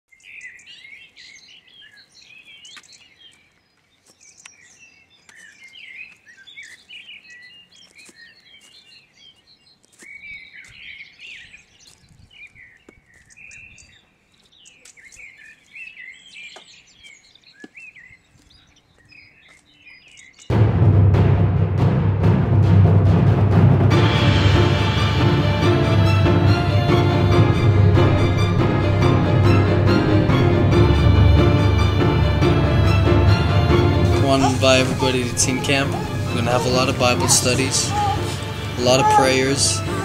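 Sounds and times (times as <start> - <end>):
birds chirping and singing: 0.1 - 20.5, 26.8 - 40.0.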